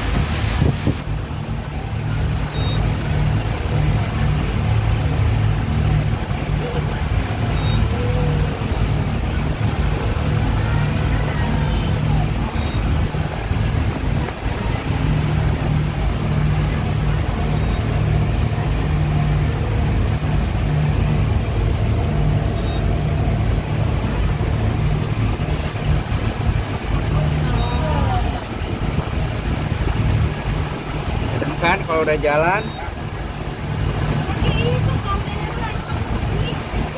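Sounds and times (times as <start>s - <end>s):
speedboat engine drone: 0.0s - 36.9s
water rushing: 0.0s - 36.9s.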